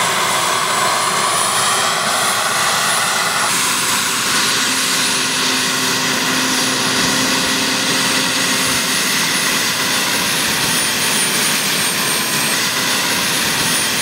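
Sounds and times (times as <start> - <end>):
model turbine engine rushing hiss: 0.0 - 14.0
thin high whine: 0.0 - 14.0.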